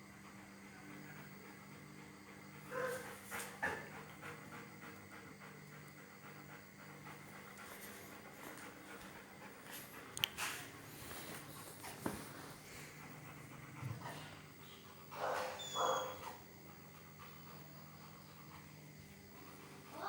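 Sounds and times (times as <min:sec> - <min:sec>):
dog panting softly: 0:00.1 - 0:20.0.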